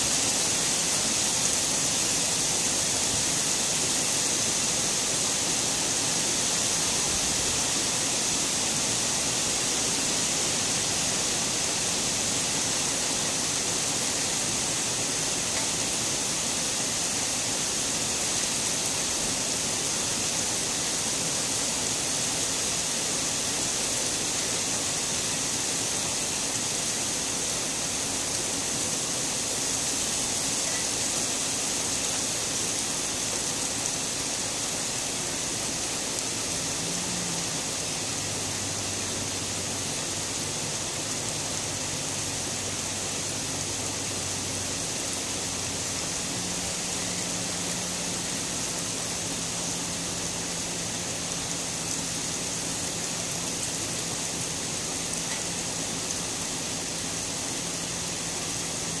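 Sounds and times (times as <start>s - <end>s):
heavy rain on pavement and leaves: 0.0s - 59.0s.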